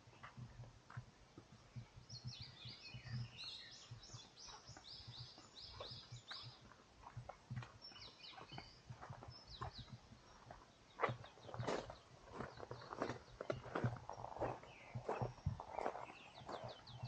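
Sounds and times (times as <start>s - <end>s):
small songbird singing: 1.7s - 17.0s.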